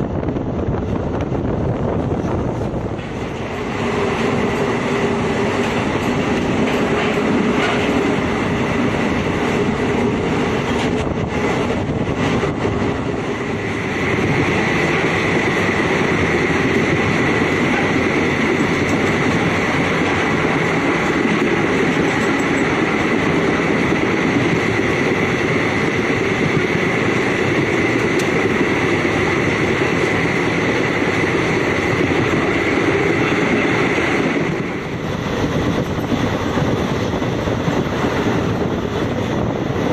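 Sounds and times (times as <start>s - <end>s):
train running at speed: 0.0s - 39.9s.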